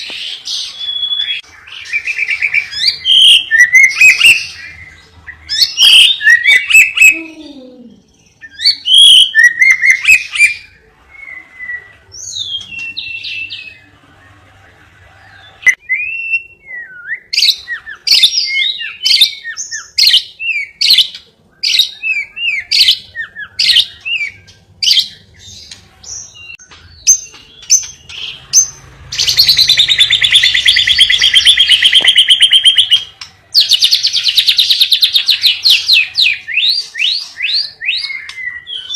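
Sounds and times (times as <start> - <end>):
lovebird chirping and trilling: 0.0 - 13.9, 15.2 - 38.9.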